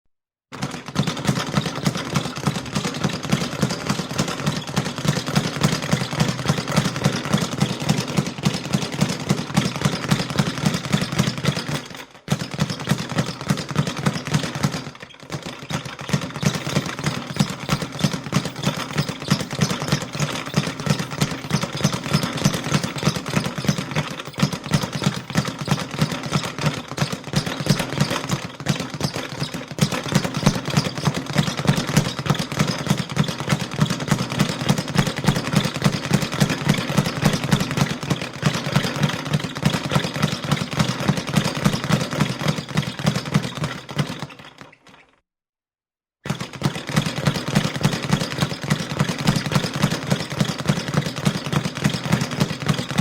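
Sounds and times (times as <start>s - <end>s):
boxing punches thudding: 0.6s - 44.3s, 46.3s - 53.0s.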